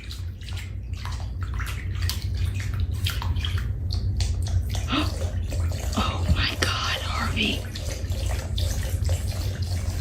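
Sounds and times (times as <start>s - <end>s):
water running and splashing: 0.0s - 10.0s.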